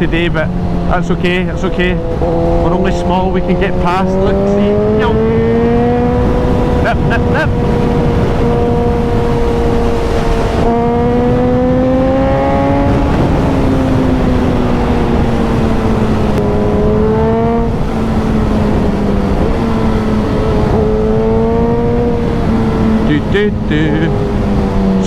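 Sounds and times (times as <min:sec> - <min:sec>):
motorcycle engine revving: 0:00.0 - 0:25.0
wind rushing: 0:00.0 - 0:25.0.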